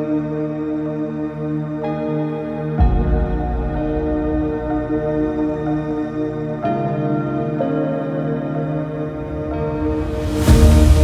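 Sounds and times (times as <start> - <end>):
ambient music with low bass: 0.0 - 11.0.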